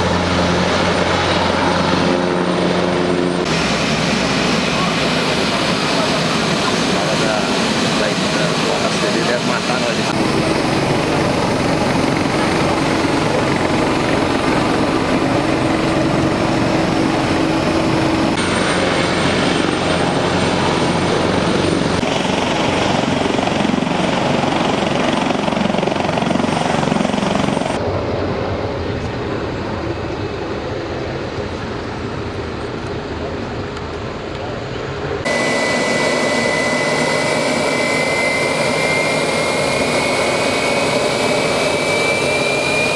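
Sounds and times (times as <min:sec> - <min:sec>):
aircraft engines droning: 0:00.0 - 0:42.9.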